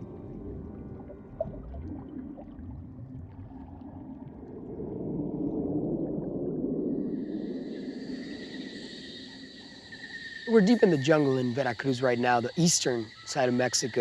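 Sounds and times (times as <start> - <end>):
muffled rushing gurgling water: 0.0 - 14.0.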